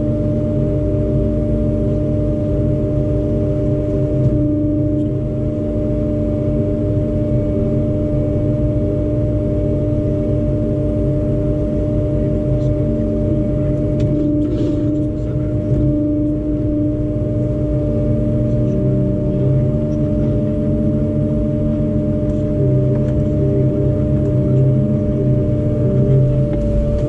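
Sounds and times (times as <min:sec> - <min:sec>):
excavator engine hum: 0:00.0 - 0:27.0
hydraulic whine: 0:00.0 - 0:27.0.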